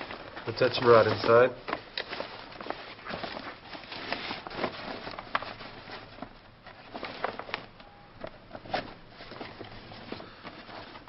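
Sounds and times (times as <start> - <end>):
fabric rustling and crinkling: 0.0 - 11.0.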